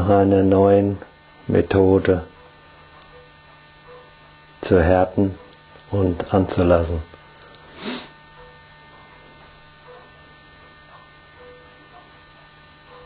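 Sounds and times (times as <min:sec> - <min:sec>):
electrical mains hum: 0:00.0 - 0:13.0
faint steady tones: 0:00.0 - 0:13.0.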